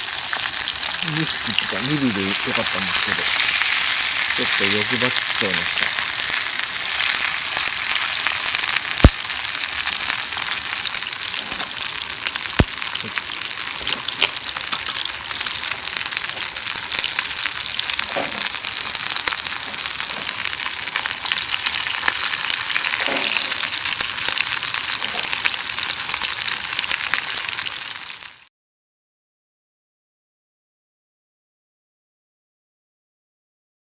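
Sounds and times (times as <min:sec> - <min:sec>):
fish sizzling in a pan: 0:00.0 - 0:28.5.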